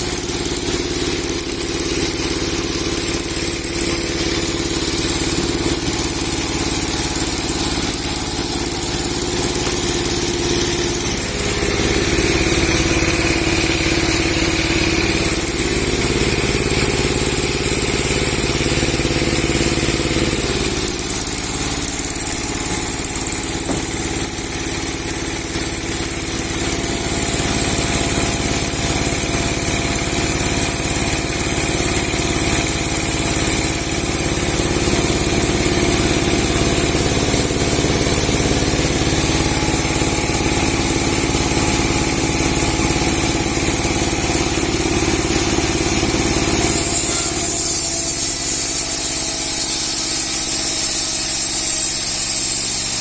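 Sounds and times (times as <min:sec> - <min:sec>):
sawmill blade whine: 0:00.0 - 0:53.0
sawmill engine: 0:00.0 - 0:53.0.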